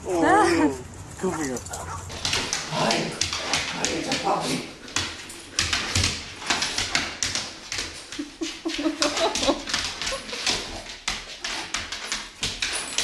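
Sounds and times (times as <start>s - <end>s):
dog claws clicking on wood floor: 1.5s - 13.0s.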